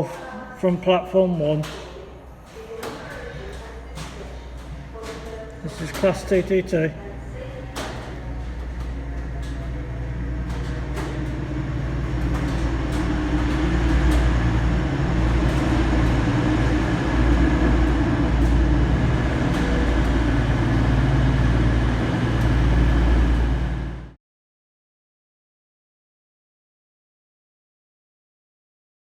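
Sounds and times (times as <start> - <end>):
diesel train engines droning: 0.0 - 24.2.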